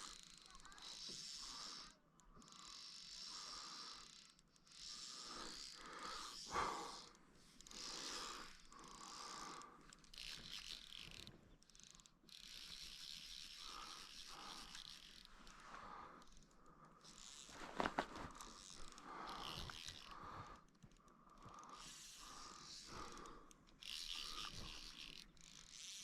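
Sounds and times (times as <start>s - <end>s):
fly reel ratchet clicking: 0.0s - 26.0s.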